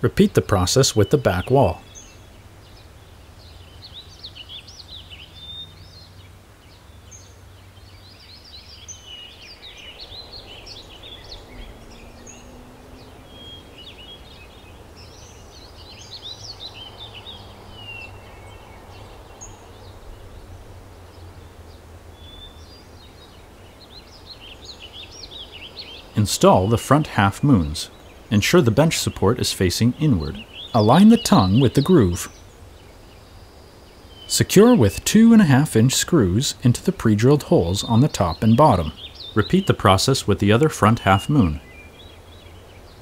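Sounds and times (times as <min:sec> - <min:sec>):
birds chirping and singing: 0:00.0 - 0:43.0.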